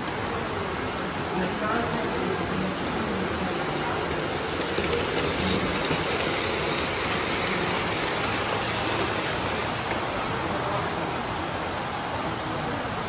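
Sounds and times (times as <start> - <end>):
model train wheels on rail: 0.0 - 13.0
train motors: 0.0 - 13.0.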